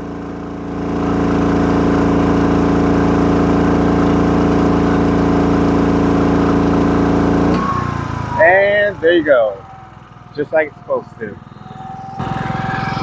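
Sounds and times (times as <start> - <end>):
generator engine running hard: 0.0 - 13.0.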